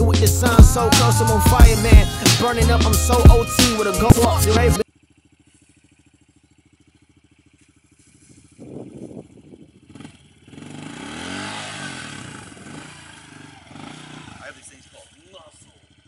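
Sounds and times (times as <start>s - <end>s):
motorbike engine revving: 0.0s - 16.0s.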